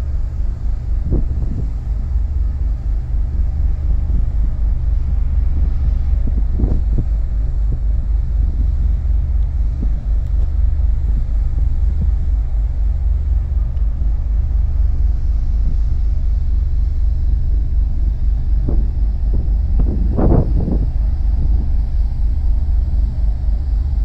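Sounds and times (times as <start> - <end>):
ship engines deep rumble: 0.0 - 24.0
wind blowing over microphone: 0.0 - 24.0.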